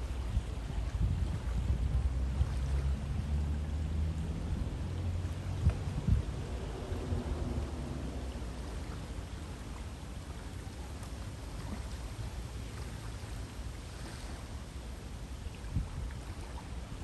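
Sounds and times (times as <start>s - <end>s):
river water rushing: 0.0s - 17.0s
water trickles and splashes: 0.0s - 17.0s.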